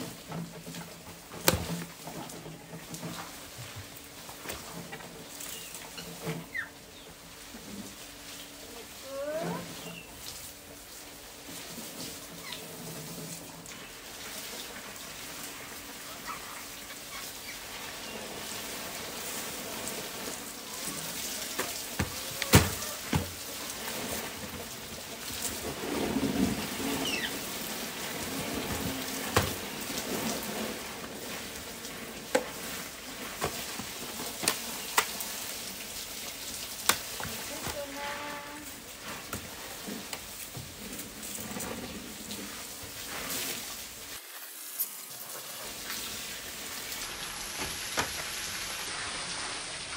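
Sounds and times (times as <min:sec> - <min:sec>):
steady hiss: 0:06.7 - 0:49.9.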